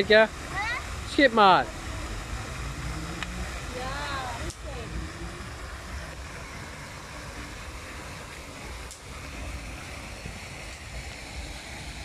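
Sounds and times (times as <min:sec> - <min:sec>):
fountain water jets splashing: 0:00.0 - 0:12.0.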